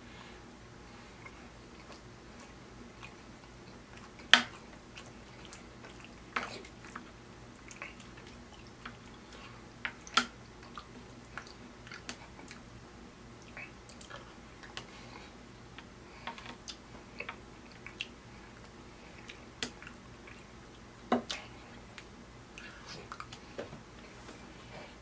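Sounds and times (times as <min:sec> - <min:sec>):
man chewing with wet smacks: 0:00.9 - 0:23.7.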